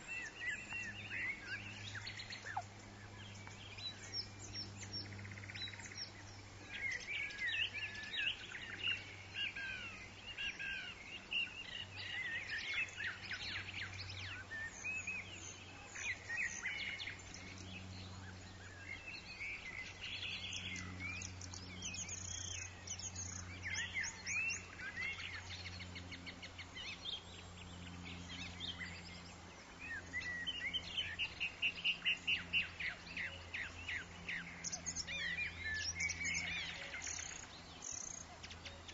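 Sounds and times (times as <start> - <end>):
birds chirping and calling: 0.0 - 38.9
steady low hum: 0.0 - 38.9.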